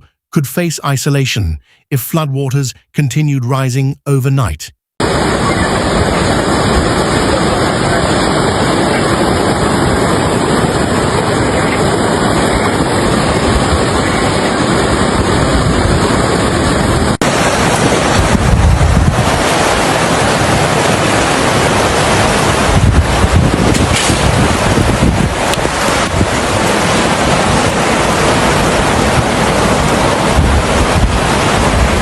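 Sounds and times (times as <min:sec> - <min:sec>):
fast-flowing river rushing: 0:05.0 - 0:32.0
wind buffeting microphone: 0:05.0 - 0:32.0.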